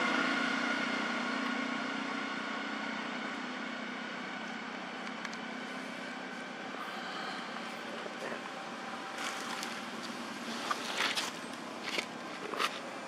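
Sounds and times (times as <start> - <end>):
motor engine drone: 0.0 - 13.0.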